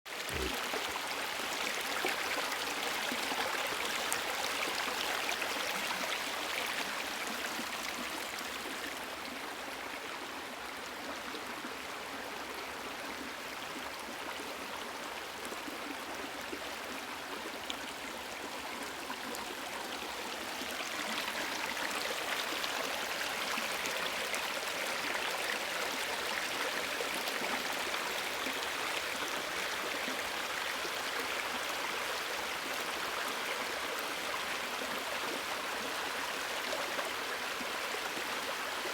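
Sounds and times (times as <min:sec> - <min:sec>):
stream running over rocks: 0:00.1 - 0:38.9.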